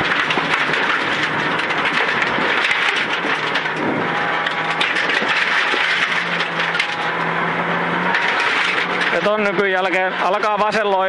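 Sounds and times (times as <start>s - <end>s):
tyre and gravel rushing noise: 0.0s - 7.2s, 7.8s - 11.0s.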